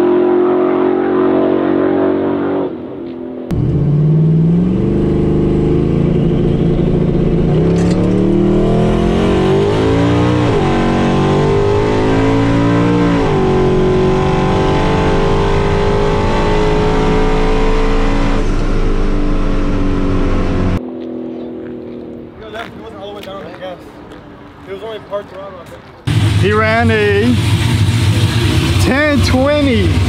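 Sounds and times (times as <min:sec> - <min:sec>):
truck engine accelerating hard: 0:00.0 - 0:22.7, 0:26.1 - 0:30.0.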